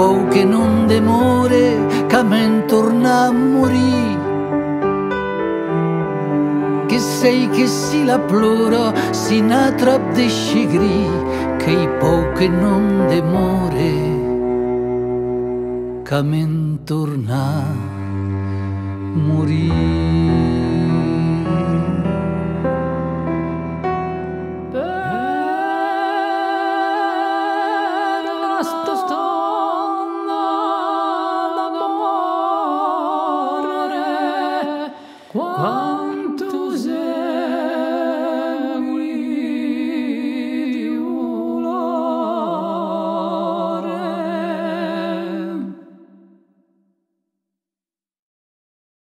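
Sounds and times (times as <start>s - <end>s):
wordless singing voice: 0.0s - 4.6s, 6.5s - 22.7s, 24.7s - 46.5s.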